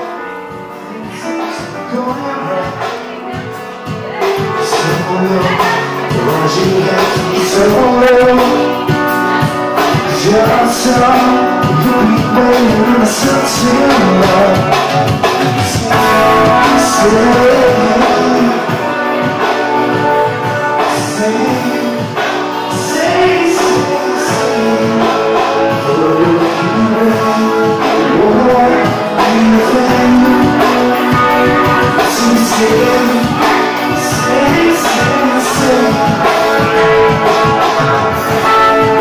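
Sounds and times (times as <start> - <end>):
guitars: 0.0 - 39.0
live band playing: 0.0 - 39.0
person singing: 0.0 - 39.0.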